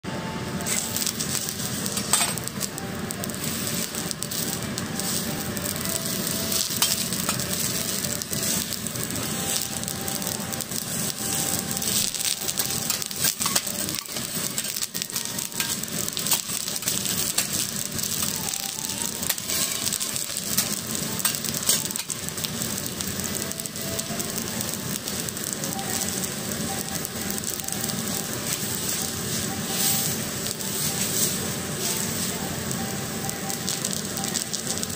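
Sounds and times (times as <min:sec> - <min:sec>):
mushrooms sizzling on a griddle: 0:00.3 - 0:34.9.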